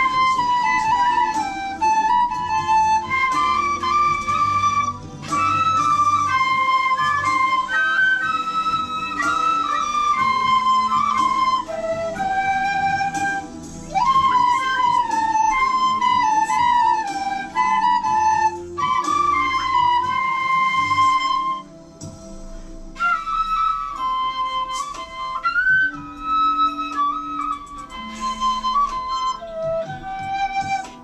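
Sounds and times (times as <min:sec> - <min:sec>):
bamboo flute melody: 0:00.0 - 0:31.0
karaoke backing track: 0:00.0 - 0:31.0.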